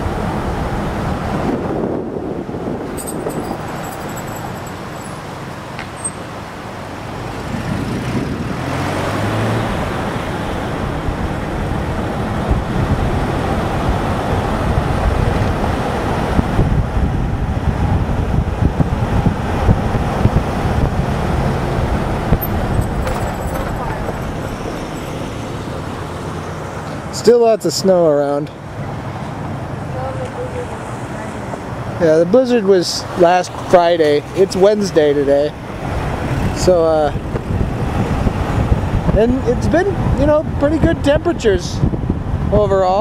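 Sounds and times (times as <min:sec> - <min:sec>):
car road and engine noise: 0:00.0 - 0:43.0.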